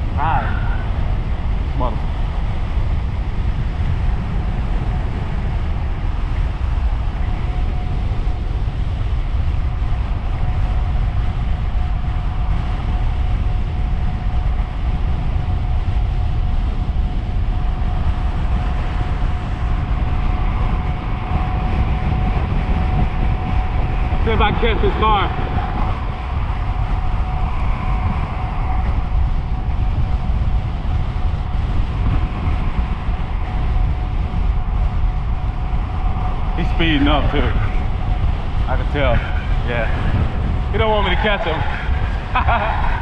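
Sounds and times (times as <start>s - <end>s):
faint steady whine: 0.0s - 43.0s
road and tyre rumble: 0.0s - 43.0s
wind buffeting microphone: 0.0s - 43.0s.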